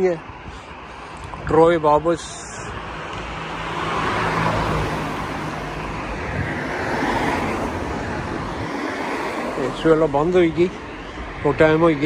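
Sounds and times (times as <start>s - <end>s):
cars passing on wet road: 0.0s - 12.0s.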